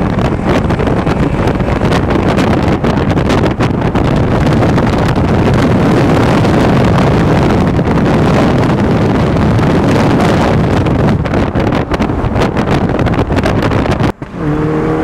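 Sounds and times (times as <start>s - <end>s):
car engine at speed: 0.0s - 15.0s
road noise: 0.0s - 15.0s
wind rush on microphone: 0.0s - 15.0s.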